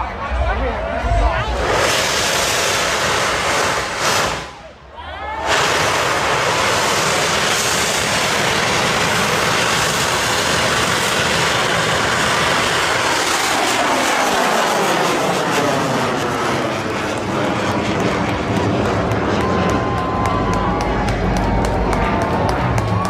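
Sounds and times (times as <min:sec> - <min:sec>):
rocket engine roaring: 0:00.0 - 0:23.0.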